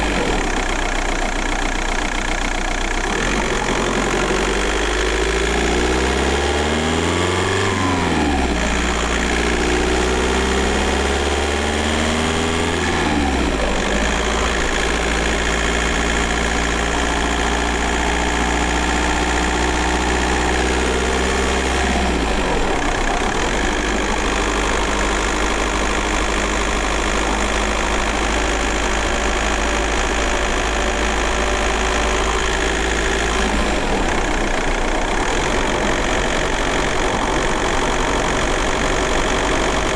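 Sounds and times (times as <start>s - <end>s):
diesel car engine from inside: 0.0s - 39.9s.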